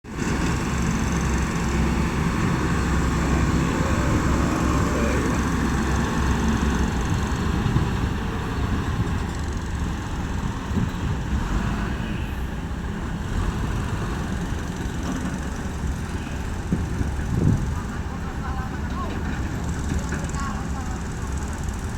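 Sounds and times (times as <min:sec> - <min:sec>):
excavator diesel engine running: 0:00.1 - 0:21.9.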